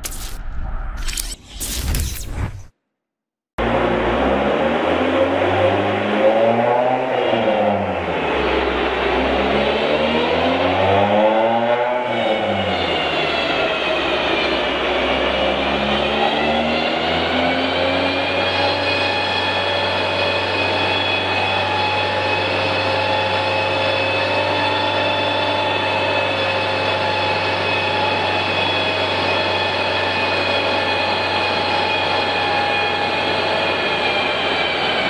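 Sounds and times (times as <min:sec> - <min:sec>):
car engine running hard: 0:03.6 - 0:35.0
dyno rollers whining: 0:03.6 - 0:35.0.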